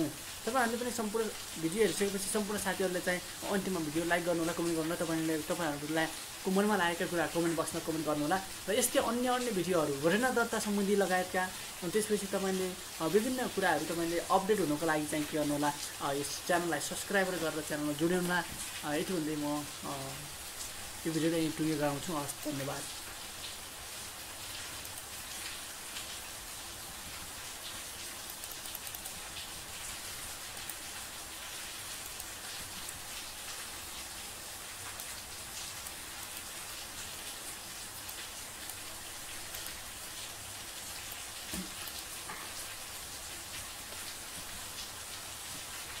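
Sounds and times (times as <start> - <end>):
low steady hiss: 0.0 - 46.0.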